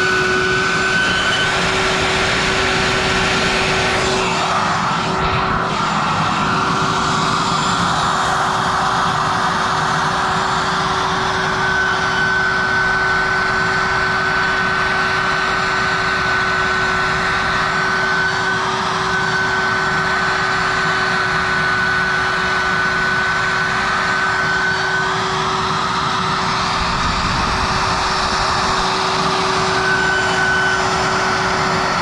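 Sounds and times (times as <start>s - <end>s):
router whining: 0.0s - 32.0s.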